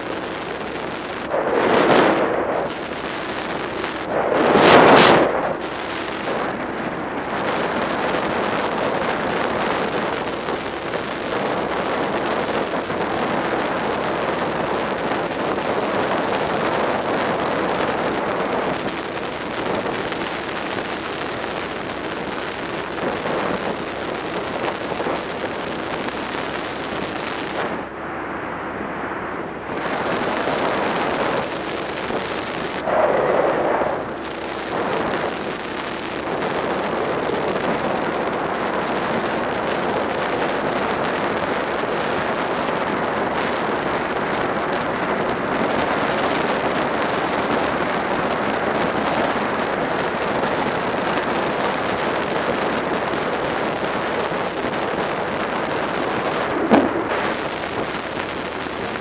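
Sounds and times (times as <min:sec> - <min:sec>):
wind rushing on microphone: 0:00.0 - 0:59.0.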